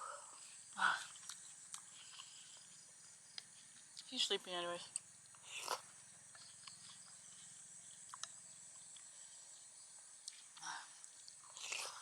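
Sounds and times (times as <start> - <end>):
faint high insect drone: 0.0 - 12.0.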